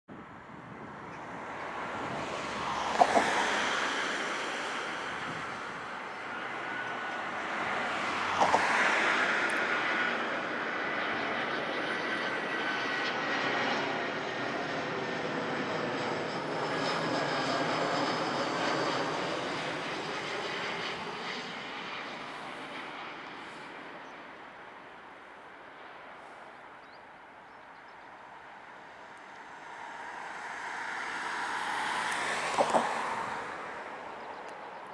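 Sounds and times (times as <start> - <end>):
jet airliner rushing with fan whine: 0.2 - 34.9.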